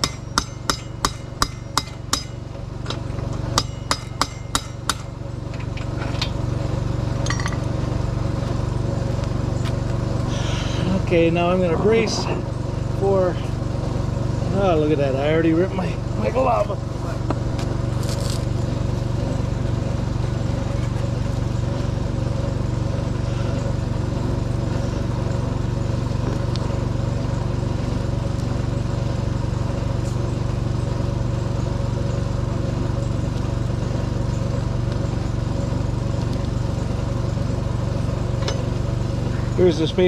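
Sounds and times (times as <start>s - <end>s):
steady mechanical hum: 0.0s - 40.0s.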